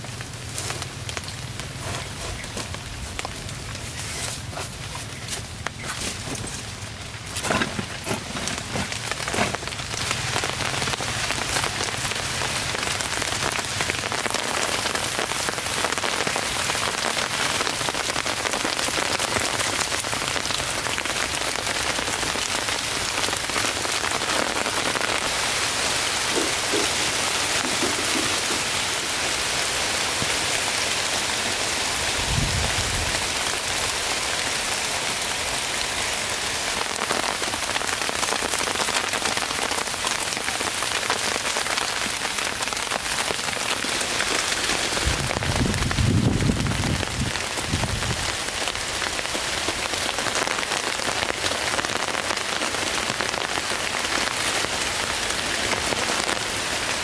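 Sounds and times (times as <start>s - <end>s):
rain on plastic sheet roof: 0.0s - 57.0s.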